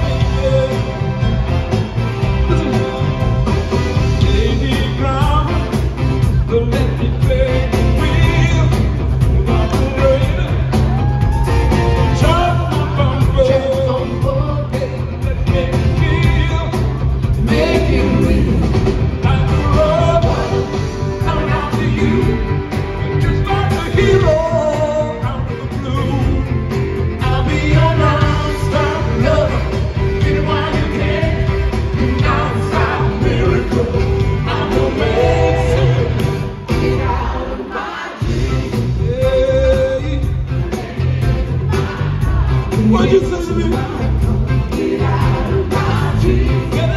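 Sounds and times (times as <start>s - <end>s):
man singing lead vocals: 0.0s - 1.5s, 2.3s - 46.9s
live pop band playing: 0.0s - 46.9s.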